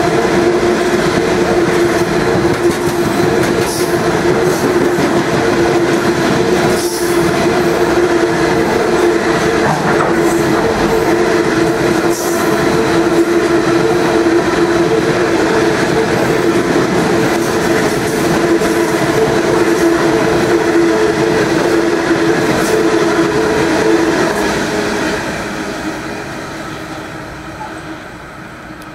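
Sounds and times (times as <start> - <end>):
freight train wheels rumbling on rail: 0.0 - 28.9.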